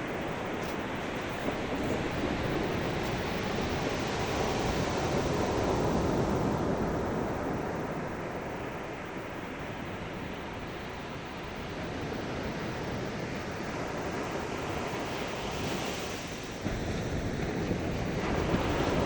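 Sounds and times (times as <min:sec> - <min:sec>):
ocean waves washing on shore: 0:00.0 - 0:19.0.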